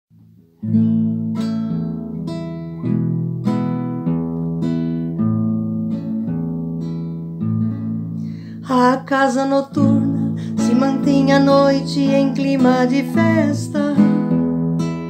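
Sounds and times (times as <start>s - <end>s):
acoustic guitar plucked notes: 0.1s - 15.0s.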